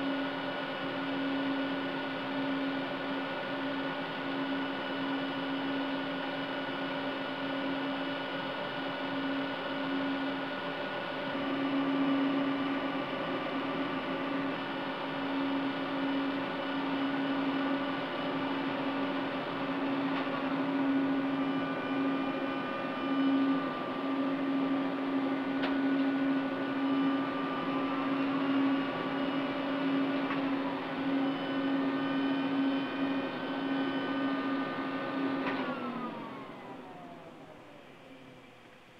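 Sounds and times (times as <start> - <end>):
cooling fans whirring: 0.0 - 38.9.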